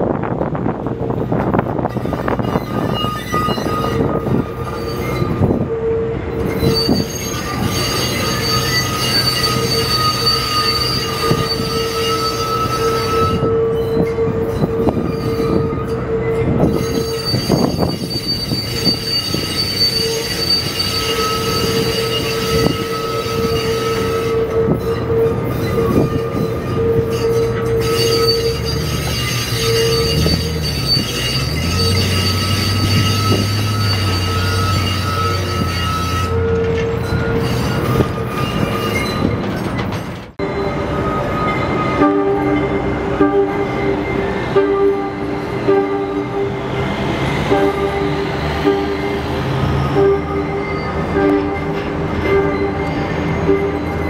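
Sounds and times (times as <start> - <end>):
train wheels squealing on rails: 1.4 - 54.0.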